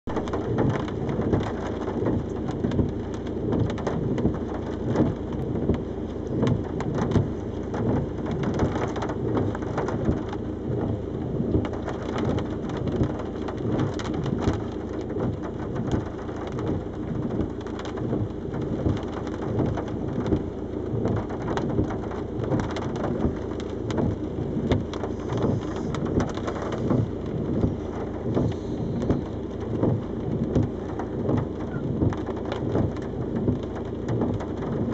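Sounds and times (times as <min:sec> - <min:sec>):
patter of driving rain: 0:00.1 - 0:34.9.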